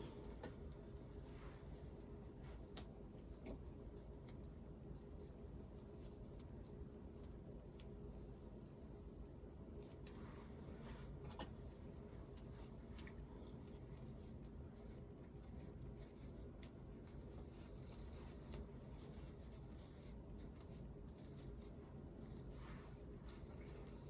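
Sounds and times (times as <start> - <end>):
low room hum: 0.0 - 24.0
rustling and light scratching: 0.0 - 24.0.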